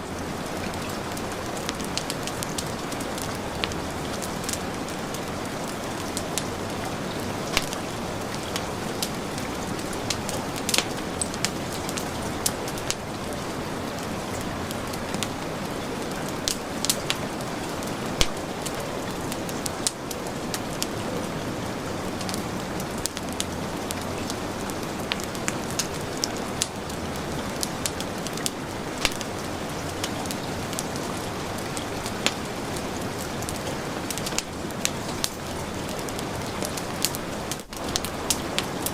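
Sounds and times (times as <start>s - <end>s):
heavy rain falling: 0.0s - 38.9s
wood fire crackling: 0.0s - 38.9s.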